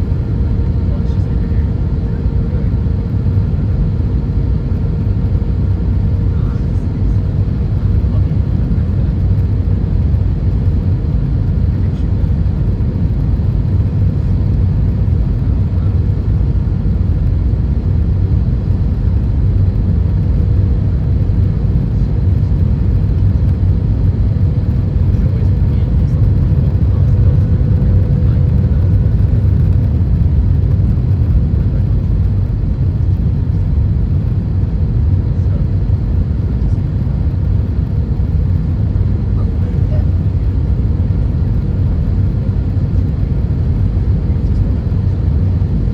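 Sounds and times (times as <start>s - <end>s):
aircraft engine rumble: 0.0s - 45.9s.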